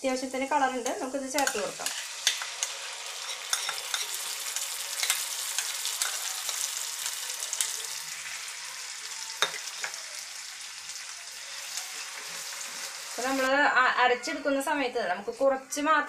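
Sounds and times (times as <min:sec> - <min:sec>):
paste sizzling in hot oil: 0:00.1 - 0:13.5.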